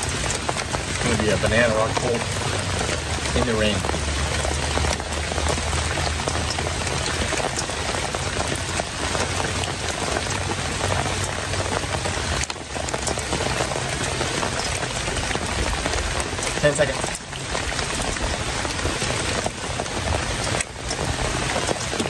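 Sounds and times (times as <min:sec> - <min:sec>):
rain drops ticking: 0:00.0 - 0:22.0
steady rain hiss: 0:00.0 - 0:22.0.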